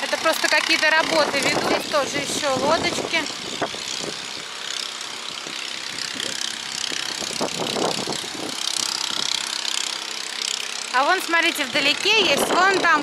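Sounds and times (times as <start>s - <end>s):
engine-driven machine rattling: 0.0s - 13.0s.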